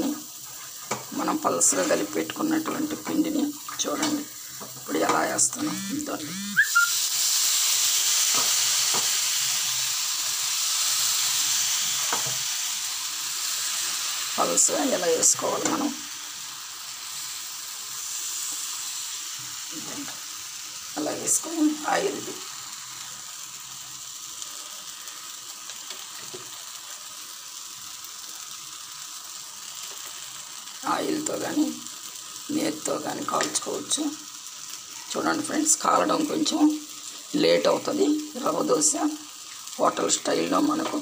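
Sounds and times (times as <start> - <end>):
batter sizzling in a pan: 0.0 - 41.0.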